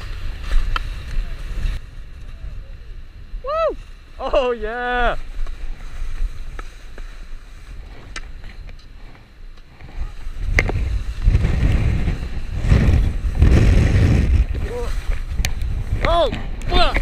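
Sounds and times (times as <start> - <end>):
skis running over snow: 0.0 - 2.4, 5.2 - 17.0
wind rushing on microphone: 0.0 - 17.0.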